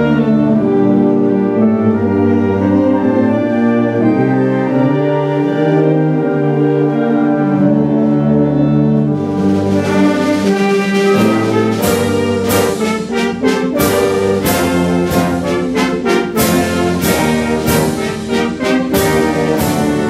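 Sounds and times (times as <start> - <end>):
concert band playing: 0.0 - 20.0.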